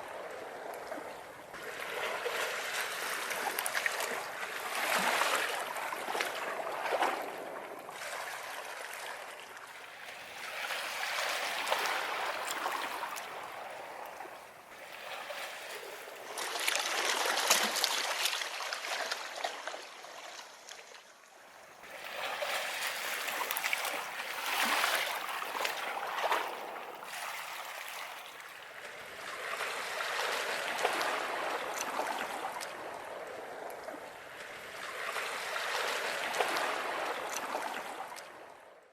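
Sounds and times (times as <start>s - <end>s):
ocean waves breaking on beach: 0.0s - 20.3s, 21.8s - 38.6s.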